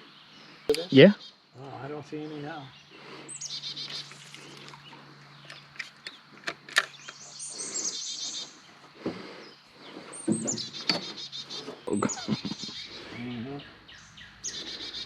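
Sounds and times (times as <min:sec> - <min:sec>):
songbirds trilling: 0:00.0 - 0:15.0.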